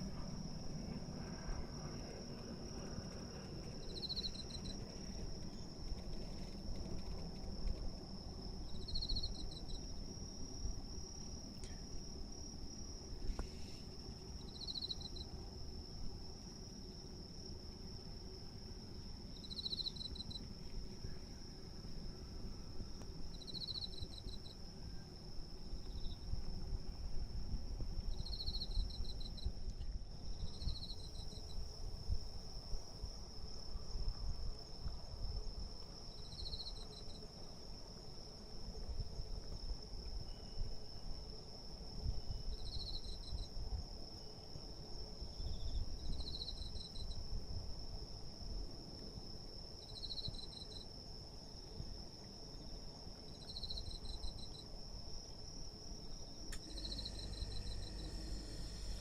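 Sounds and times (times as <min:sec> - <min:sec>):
high insect trill: 0:00.0 - 0:59.0
pulsed cricket chirps: 0:00.0 - 0:59.0.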